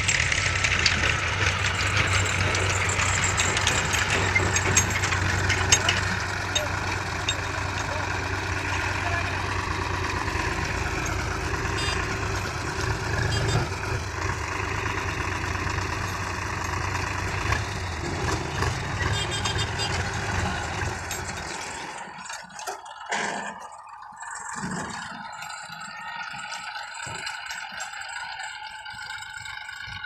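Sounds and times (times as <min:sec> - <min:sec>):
diesel engine idling: 0:00.0 - 0:30.0
faint clicks and rattles: 0:00.0 - 0:30.0.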